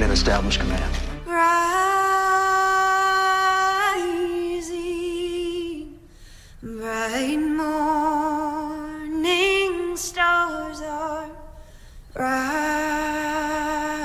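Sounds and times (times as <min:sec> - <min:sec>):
woman singing long held notes: 0:01.2 - 0:14.0.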